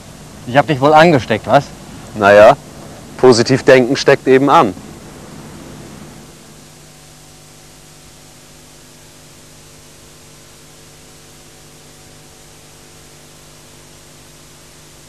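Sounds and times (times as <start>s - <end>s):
low steady hum: 0.0s - 15.0s
recording hiss: 0.0s - 15.0s.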